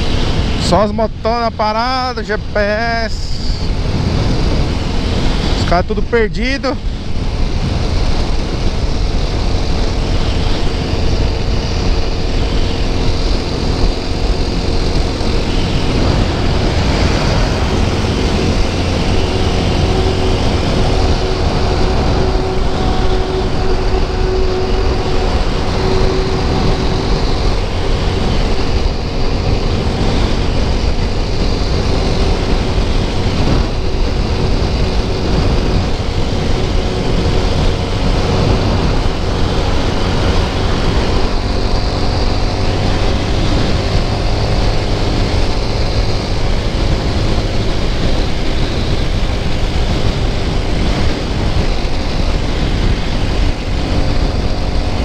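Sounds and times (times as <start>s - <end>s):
motorcycle engine cruising: 0.0s - 55.0s
wind rumble on microphone: 0.0s - 55.0s.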